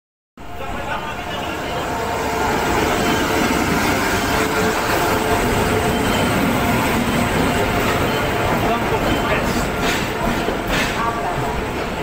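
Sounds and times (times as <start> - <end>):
train wheels rumbling on rails: 0.4 - 12.0.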